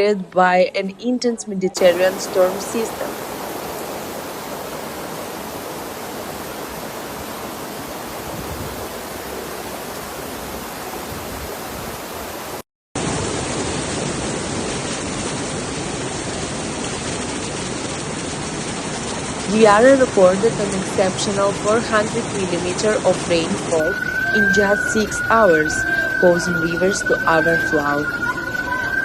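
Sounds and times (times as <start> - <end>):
floodwater rushing: 1.8 - 29.0.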